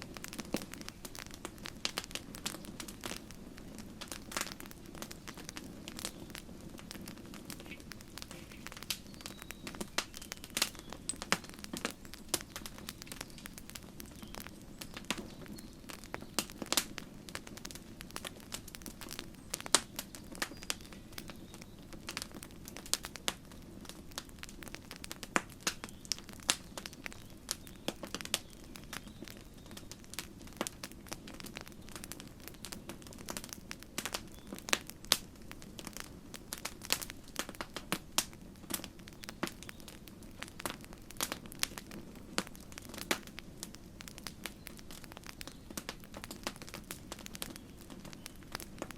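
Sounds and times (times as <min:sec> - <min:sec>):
campfire wood crackling and popping: 0:00.0 - 0:48.9
low rumble of flames: 0:00.0 - 0:48.9.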